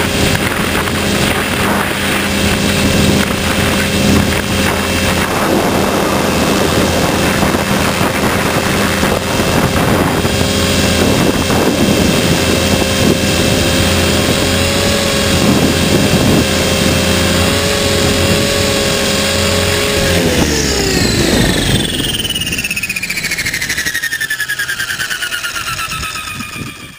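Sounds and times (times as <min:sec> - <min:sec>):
rc helicopter motor and rotor whine: 0:00.0 - 0:26.9.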